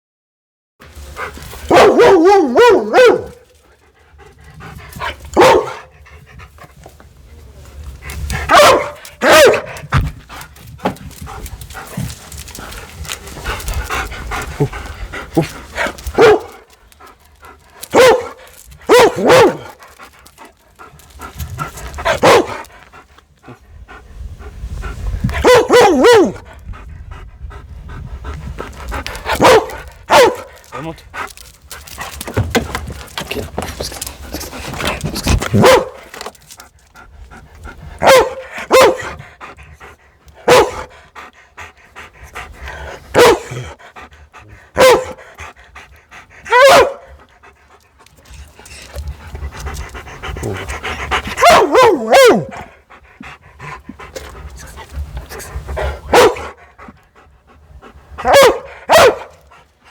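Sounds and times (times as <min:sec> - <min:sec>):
dog panting: 0:03.5 - 0:25.7, 0:26.3 - 0:59.9.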